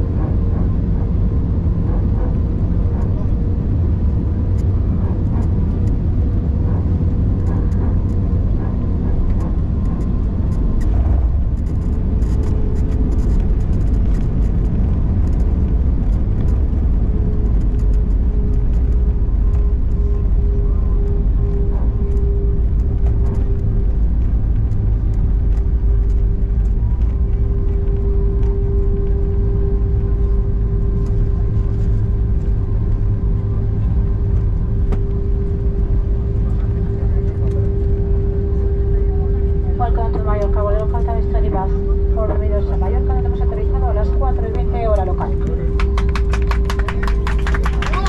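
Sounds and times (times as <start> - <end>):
airliner cabin rumble and hum: 0.0 - 48.0.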